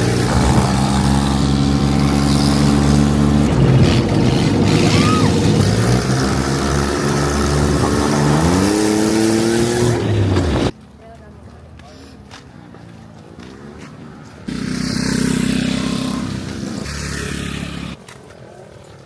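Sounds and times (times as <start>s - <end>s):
atv engine running: 0.0s - 10.7s, 13.2s - 18.0s.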